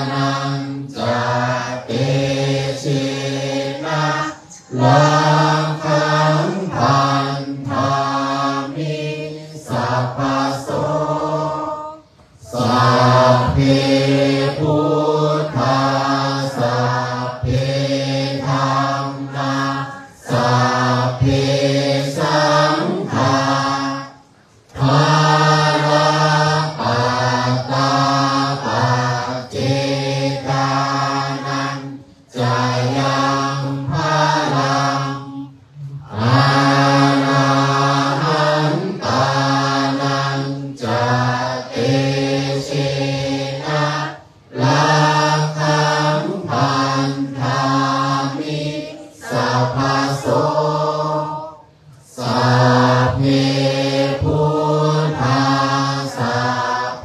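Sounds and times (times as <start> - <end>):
monks chanting in unison: 0.0 - 57.0.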